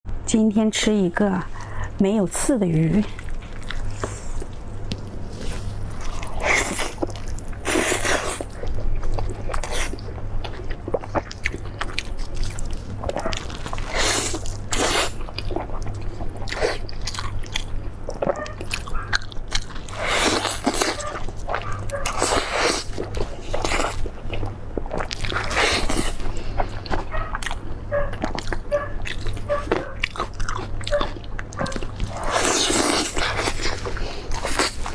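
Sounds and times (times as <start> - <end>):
steady low hum: 0.1 - 34.9
crunchy chewing: 2.9 - 34.9.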